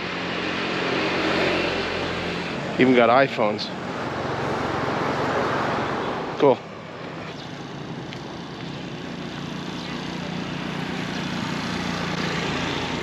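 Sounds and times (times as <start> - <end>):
vehicle engine drone approaching: 0.0 - 13.0.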